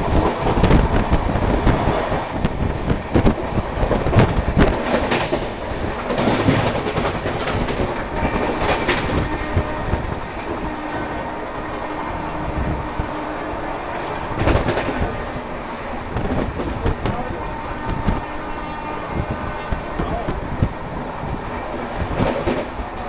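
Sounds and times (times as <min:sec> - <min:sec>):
train running rumble: 0:00.0 - 0:23.0
wheels clattering over rail joints: 0:00.0 - 0:23.0.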